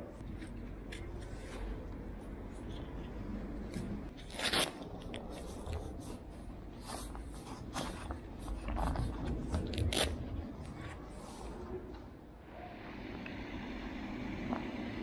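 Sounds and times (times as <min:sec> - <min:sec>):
handling rustles and scrapes: 0:00.2 - 0:12.2.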